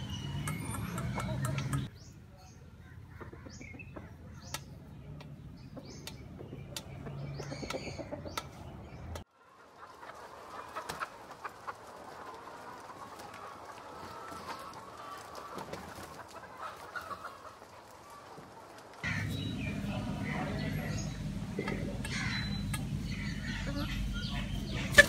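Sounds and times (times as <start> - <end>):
hens clucking: 0.0 - 1.9, 2.8 - 25.0.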